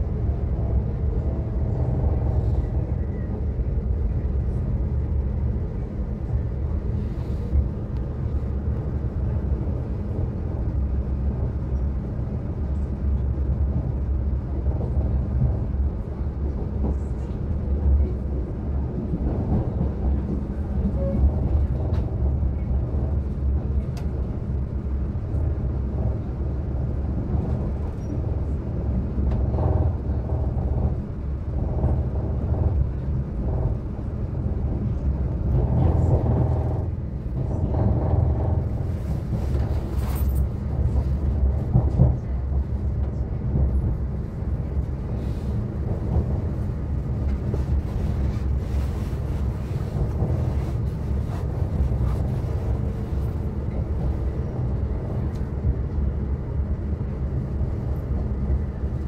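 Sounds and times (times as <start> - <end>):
train carriage rumble and hum: 0.0 - 59.0.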